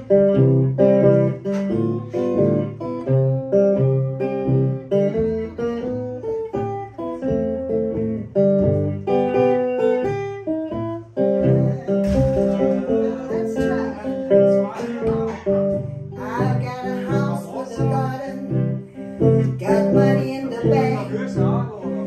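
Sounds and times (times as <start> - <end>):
fingerpicked electric guitar: 0.0 - 22.0.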